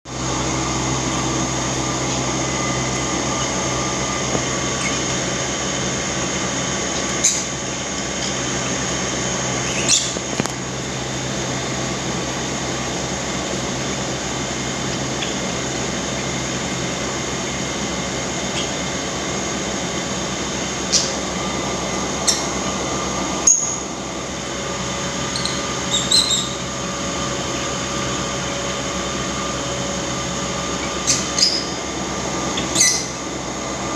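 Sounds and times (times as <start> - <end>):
steady machine hum: 0.1 - 33.9.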